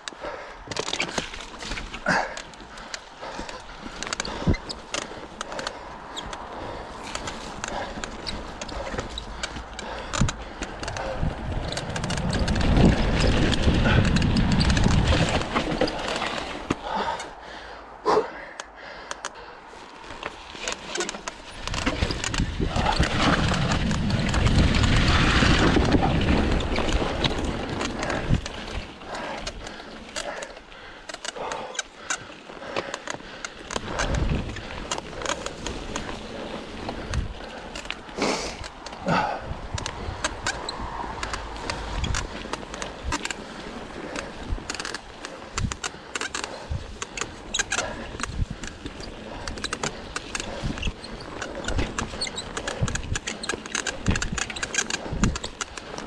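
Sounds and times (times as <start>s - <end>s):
tyres rolling over dirt: 0.0s - 17.5s, 19.6s - 56.0s
bike clattering and squeaking: 0.6s - 17.4s, 20.0s - 56.0s.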